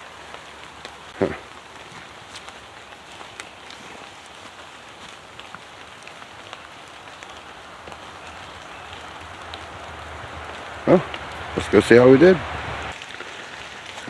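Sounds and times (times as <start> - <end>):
outdoor noise hiss: 0.0 - 14.0.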